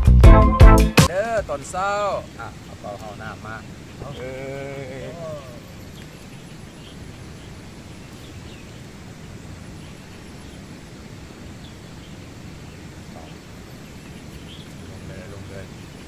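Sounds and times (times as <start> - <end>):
birds chirping: 1.1 - 16.0.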